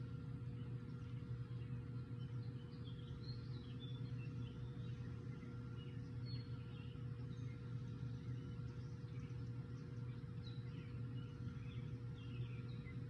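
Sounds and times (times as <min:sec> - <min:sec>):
birds chirping faintly: 0:00.0 - 0:13.0
low background hum: 0:00.0 - 0:13.0.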